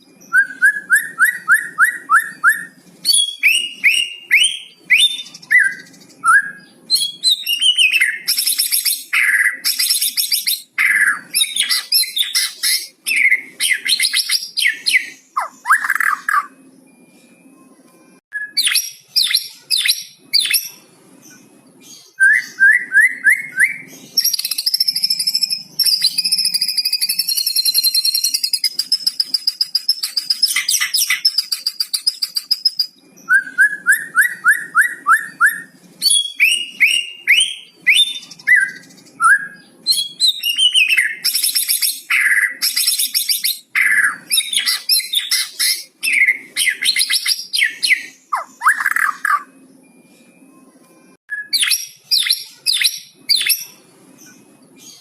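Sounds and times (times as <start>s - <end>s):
songbird whistling and chattering: 0.1s - 16.6s, 18.3s - 20.8s, 22.0s - 49.6s, 51.3s - 55.0s.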